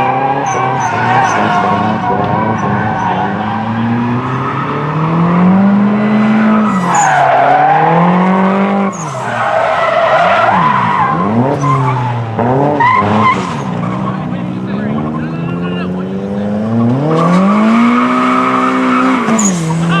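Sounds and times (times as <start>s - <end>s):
tyres squealing: 0.0s - 15.2s, 16.9s - 20.0s
car engines revving: 0.0s - 20.0s.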